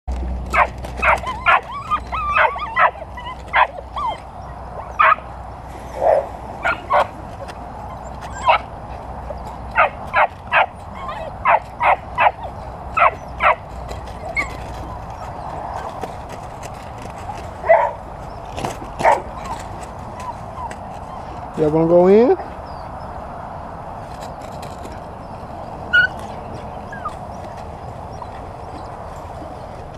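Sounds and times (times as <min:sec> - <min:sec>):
puppies yipping and barking: 0:00.4 - 0:21.6, 0:24.2 - 0:29.8.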